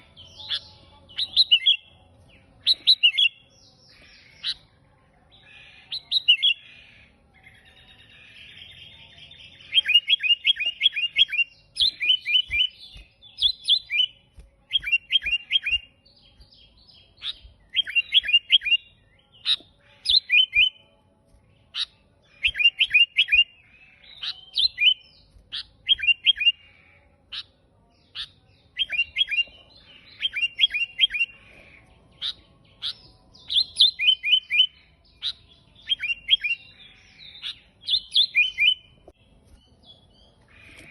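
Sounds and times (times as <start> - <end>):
bird chirping song: 0.0 - 40.9.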